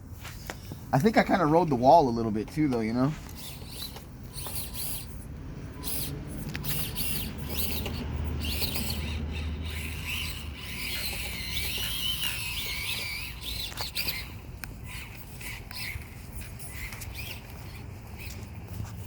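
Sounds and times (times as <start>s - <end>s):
small electric motors whining: 0.4s - 19.0s.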